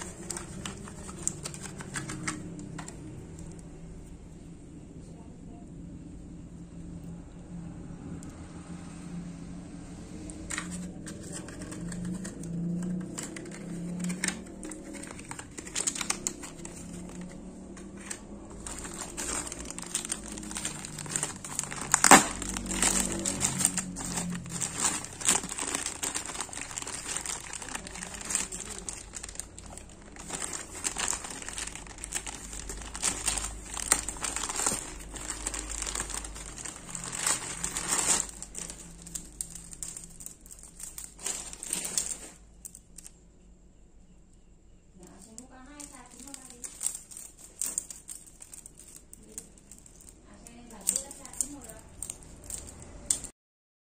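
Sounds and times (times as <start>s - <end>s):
plastic bag crinkling: 0.0s - 3.6s, 10.3s - 43.1s, 45.0s - 53.3s.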